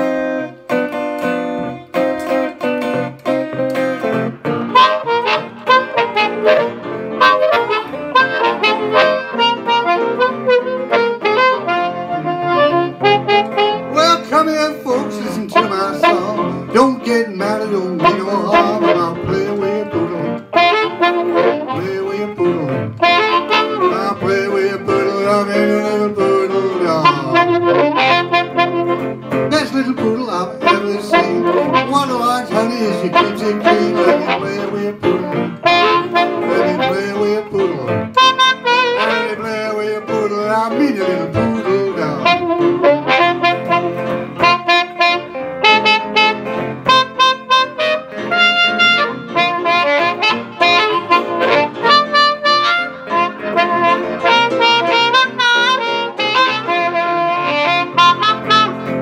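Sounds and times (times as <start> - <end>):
amplified harmonica: 0.0 - 59.0
electric guitar rhythm: 0.0 - 59.0.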